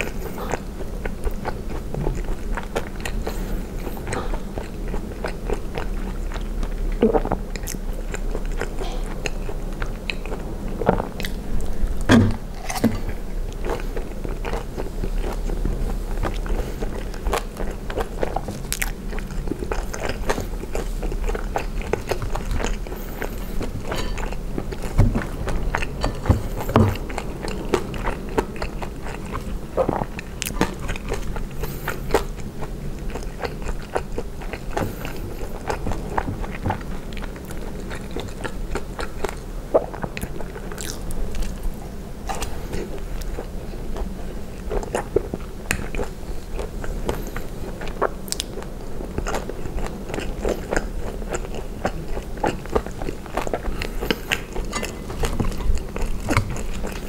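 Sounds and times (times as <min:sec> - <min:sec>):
close-miked chewing: 0:00.0 - 0:57.0.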